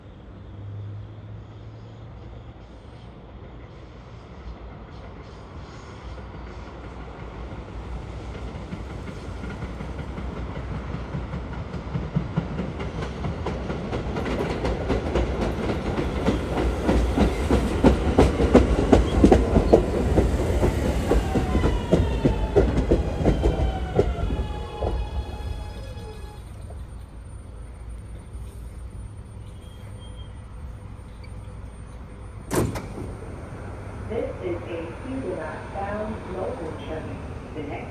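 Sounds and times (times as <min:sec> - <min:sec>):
electric train approaching: 0:00.0 - 0:37.9
falling train whine: 0:04.2 - 0:37.9.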